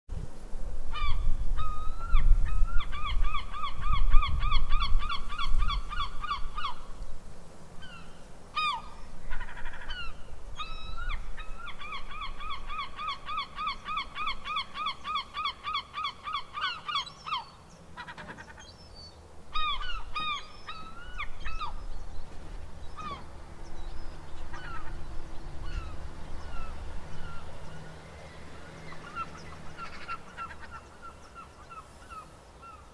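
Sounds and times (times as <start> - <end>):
seagulls calling: 0.9 - 7.0, 7.8 - 32.9.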